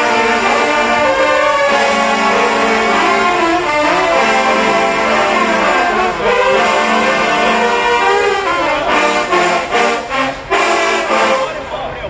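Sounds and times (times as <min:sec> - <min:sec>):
trombones playing a funky tune: 0:00.0 - 0:11.7.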